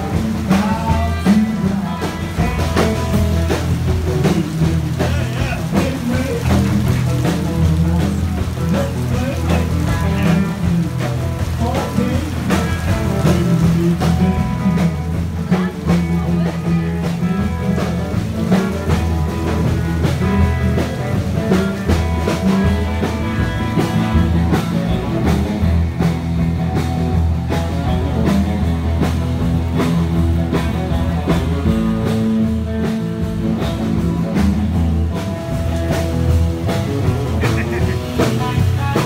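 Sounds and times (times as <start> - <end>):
rock music: 0.0 - 39.0.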